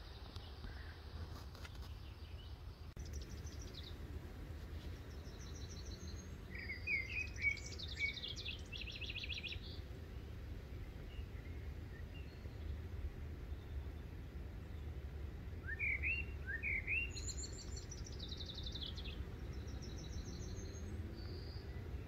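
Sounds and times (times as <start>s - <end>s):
birds singing: 1.7s - 22.0s
low background rumble: 2.7s - 22.0s.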